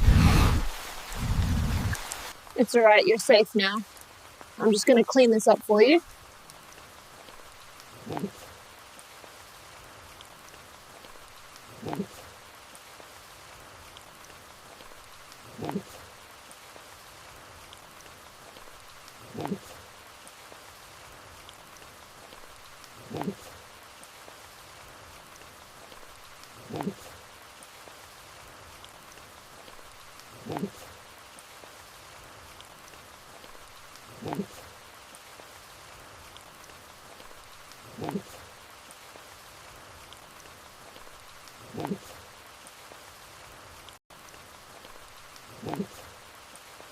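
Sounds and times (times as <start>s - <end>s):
rain hiss: 0.0s - 46.9s.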